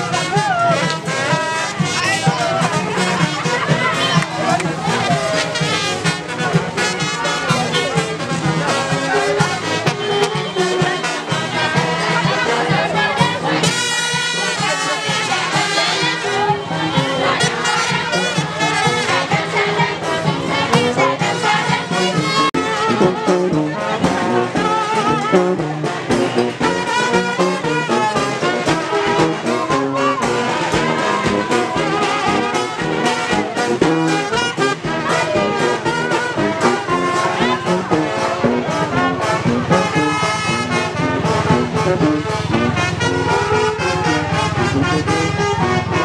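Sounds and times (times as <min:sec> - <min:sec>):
marching brass band playing: 0:00.0 - 0:46.0.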